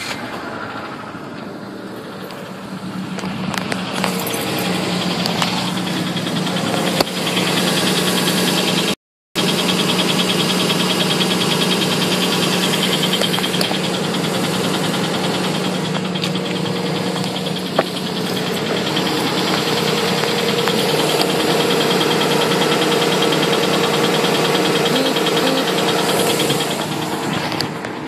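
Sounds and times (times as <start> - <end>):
car engine idling with knocking: 0.0 - 28.0.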